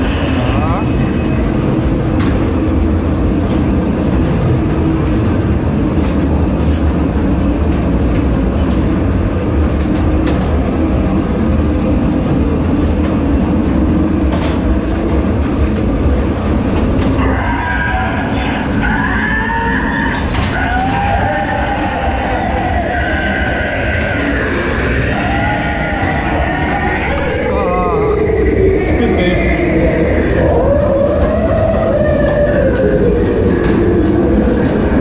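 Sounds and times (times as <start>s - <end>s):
ride car rumbling on track: 0.0s - 35.0s.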